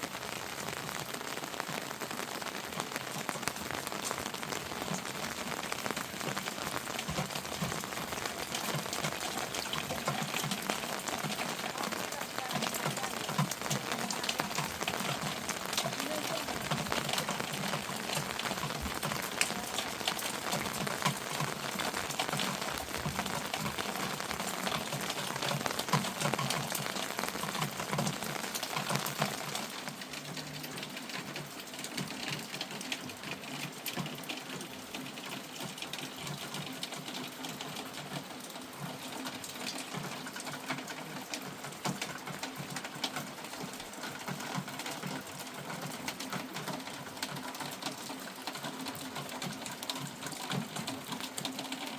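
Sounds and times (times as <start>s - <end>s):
heavy rain pattering: 0.0s - 51.9s.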